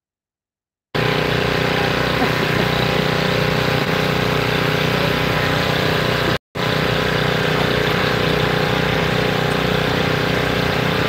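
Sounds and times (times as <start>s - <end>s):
engine idling: 1.0s - 11.0s.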